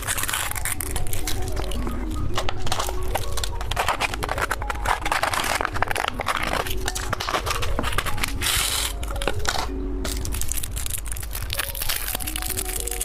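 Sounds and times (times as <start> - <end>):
plastic packaging crinkling: 0.0 - 13.0
plastic packaging tearing: 0.0 - 13.0.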